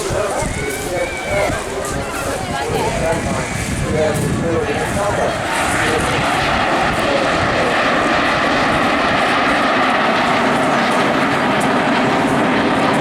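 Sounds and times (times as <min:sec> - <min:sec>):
jet engine rushing with whine: 0:00.0 - 0:13.0.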